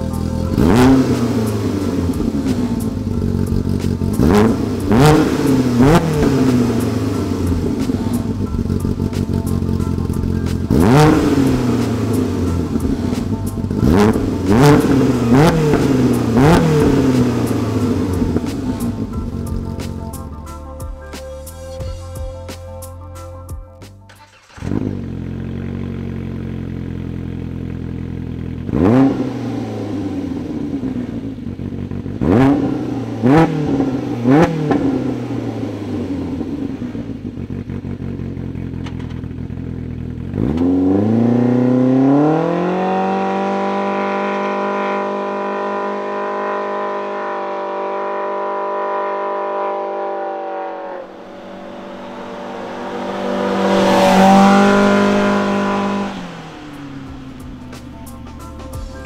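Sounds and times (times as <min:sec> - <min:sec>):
engine idling and revving: 0:00.0 - 0:59.0.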